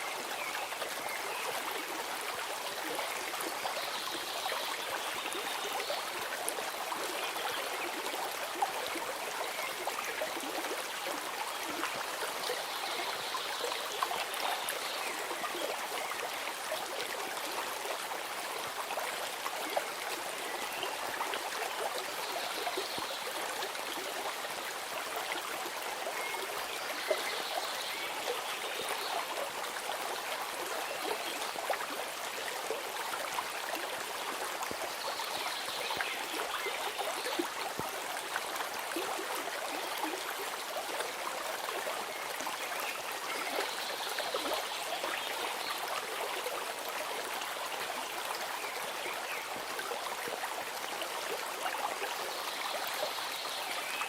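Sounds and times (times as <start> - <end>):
stream of water running: 0.0 - 54.0.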